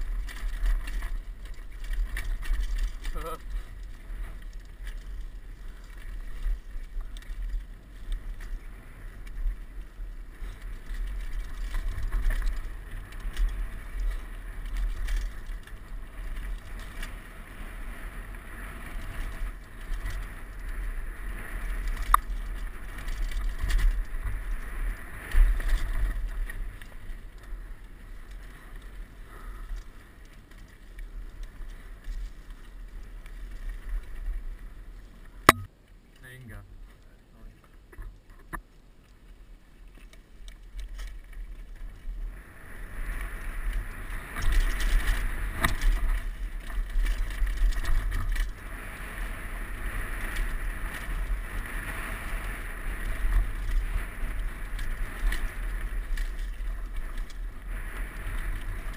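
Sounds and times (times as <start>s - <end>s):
bike rattling over bumps: 0.0s - 35.7s, 39.2s - 58.9s
bike tyre noise on dirt: 0.0s - 58.9s.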